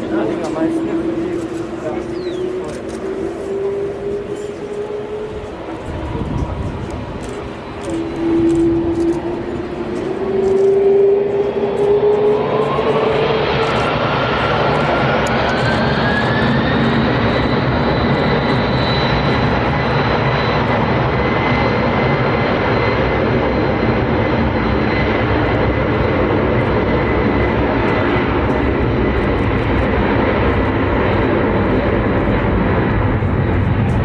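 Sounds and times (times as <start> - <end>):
jet engine roar: 0.0 - 34.0
jet engine whine: 0.0 - 34.0.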